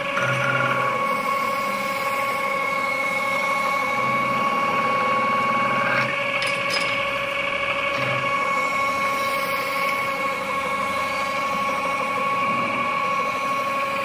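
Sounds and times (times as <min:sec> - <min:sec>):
metal lathe whining: 0:00.0 - 0:14.0.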